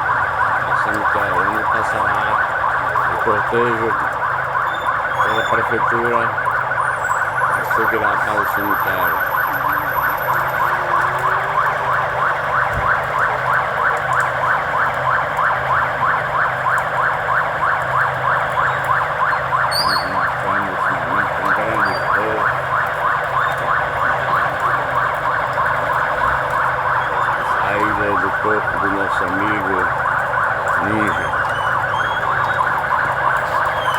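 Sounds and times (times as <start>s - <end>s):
vehicle siren yelping: 0.0s - 33.9s.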